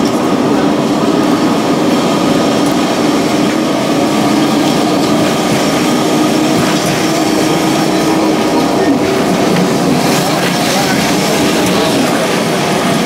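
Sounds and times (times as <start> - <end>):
tram rattling on rails: 0.0 - 13.0.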